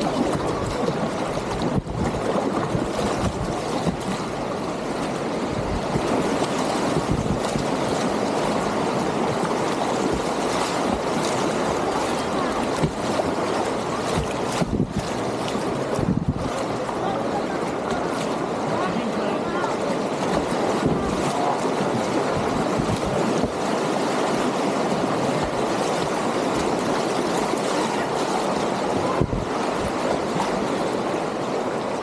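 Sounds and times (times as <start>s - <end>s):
whitewater rapids rushing: 0.0s - 32.0s.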